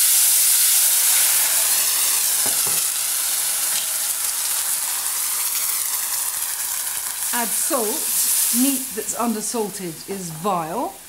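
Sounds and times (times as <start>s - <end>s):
water sizzling in hot fat: 0.0s - 11.0s.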